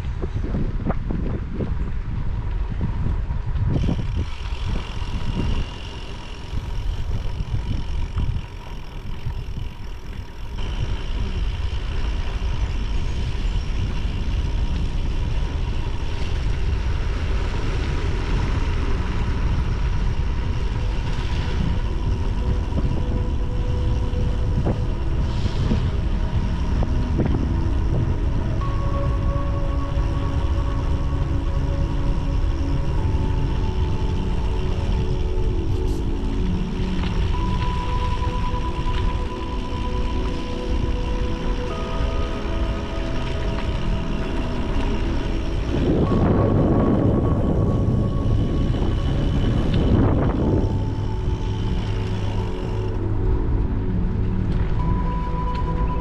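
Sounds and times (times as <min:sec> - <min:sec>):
bicycle tyres on gravel: 0:00.0 - 0:56.0
wind buffeting microphone: 0:00.0 - 0:56.0.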